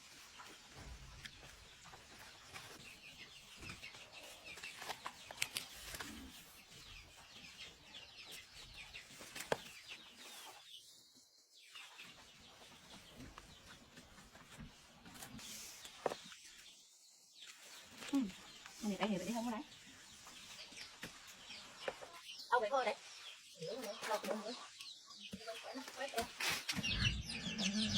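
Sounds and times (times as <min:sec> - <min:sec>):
chickens clucking and cheeping: 0:00.0 - 0:27.9.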